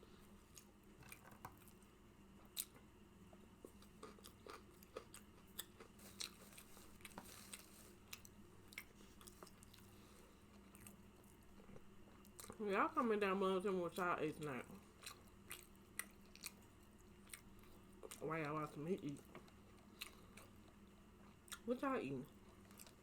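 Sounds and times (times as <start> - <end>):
close-up chewing: 0.4 - 12.6, 14.6 - 21.7, 22.3 - 23.0.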